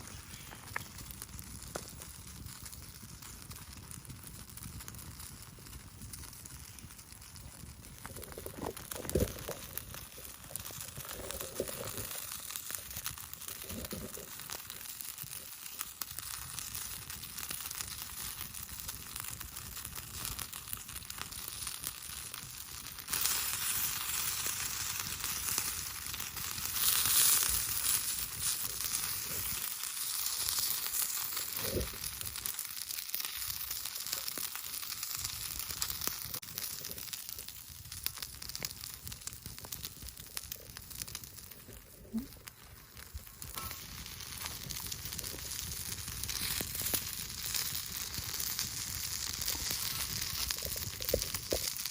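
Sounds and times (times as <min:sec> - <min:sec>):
meat sizzling on iron plate: 0:00.0 - 0:51.9.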